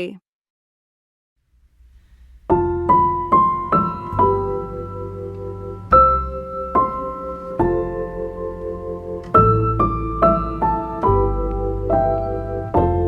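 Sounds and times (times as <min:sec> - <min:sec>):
piano music: 0:02.4 - 0:13.0.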